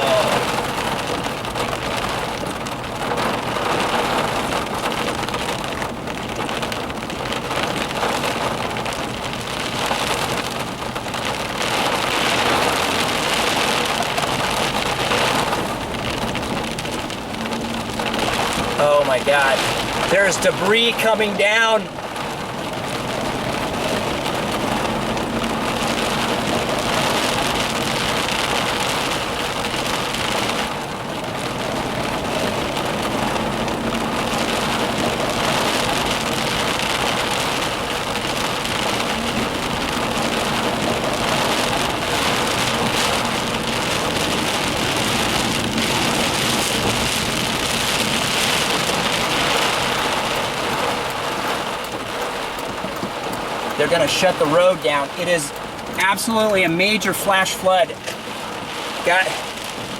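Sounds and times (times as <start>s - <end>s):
heavy rain downpour: 0.0s - 59.9s.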